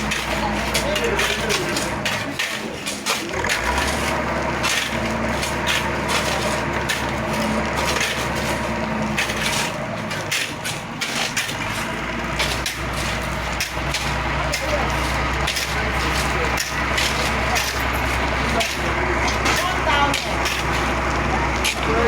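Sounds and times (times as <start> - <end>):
crunching and clattering: 0.0 - 22.0
heavy machinery engine running: 0.0 - 22.0.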